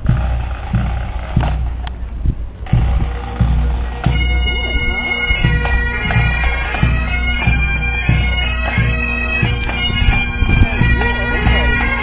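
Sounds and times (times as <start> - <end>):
bagpipes with drones: 0.0 - 12.0
bass drum beat: 0.0 - 12.0.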